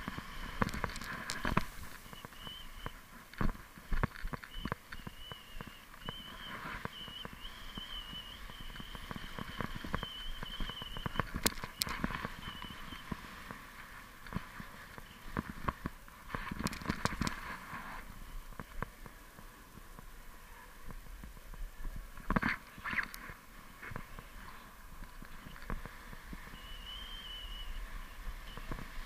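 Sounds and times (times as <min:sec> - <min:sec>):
snowboard scraping over snow: 0:00.0 - 0:29.0.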